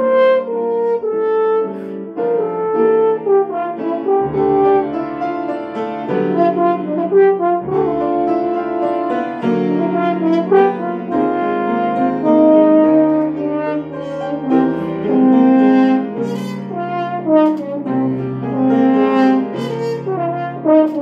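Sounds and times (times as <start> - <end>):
french horn slow melody: 0.0 - 21.0.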